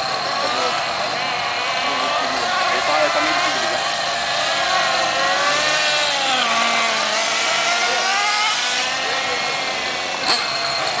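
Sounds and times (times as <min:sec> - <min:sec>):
model car engines buzzing: 0:00.0 - 0:11.0.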